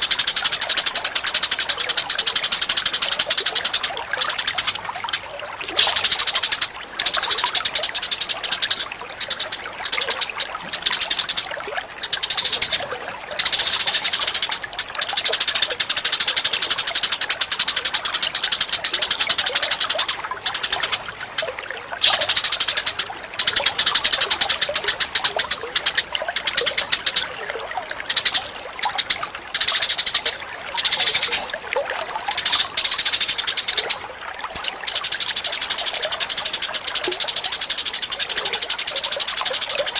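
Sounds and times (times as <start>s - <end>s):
bird chattering trills: 0.0s - 27.3s, 28.0s - 31.5s, 32.3s - 39.9s
faint running water: 0.0s - 39.9s.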